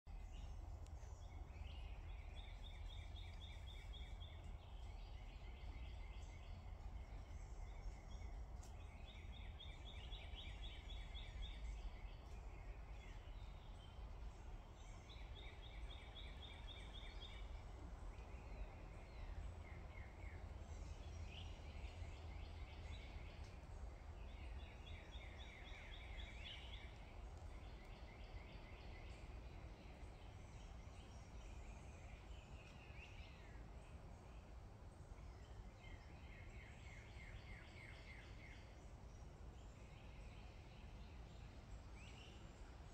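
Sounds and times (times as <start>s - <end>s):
faint low rumble: 0.1s - 42.9s.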